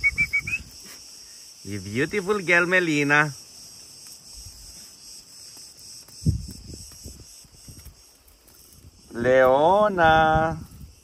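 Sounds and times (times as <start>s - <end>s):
high insect chorus: 0.0s - 11.0s.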